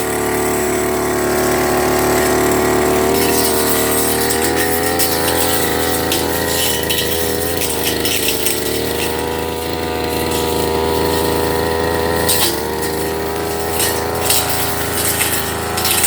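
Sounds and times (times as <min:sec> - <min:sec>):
brush cutter engine running: 0:00.0 - 0:16.0
grass ticking on cutting head: 0:00.0 - 0:16.0.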